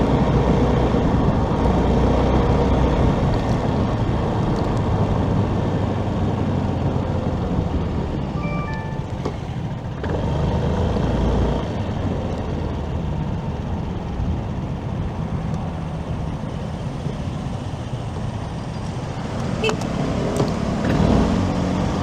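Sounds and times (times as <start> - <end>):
motorcycle road noise: 0.0 - 8.2, 9.2 - 22.0.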